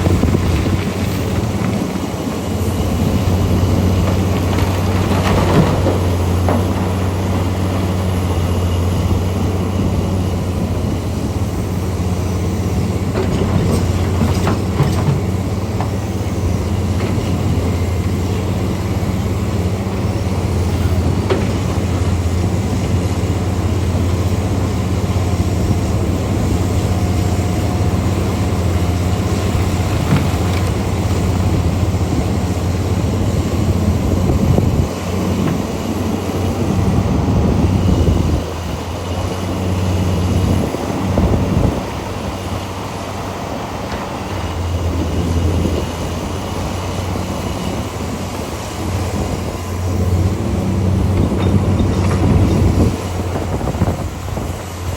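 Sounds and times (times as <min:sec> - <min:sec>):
heavy diesel machinery droning: 0:00.0 - 0:54.9.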